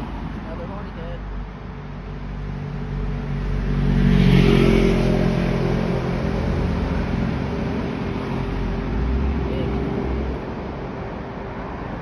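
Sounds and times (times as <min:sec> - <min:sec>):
vehicle engine passing by: 0:02.3 - 0:12.0.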